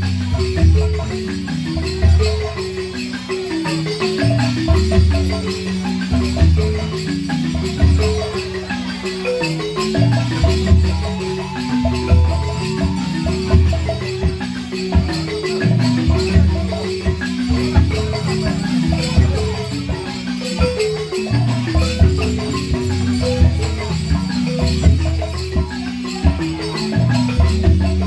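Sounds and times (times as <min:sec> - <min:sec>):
balafons playing: 0:00.0 - 0:28.0.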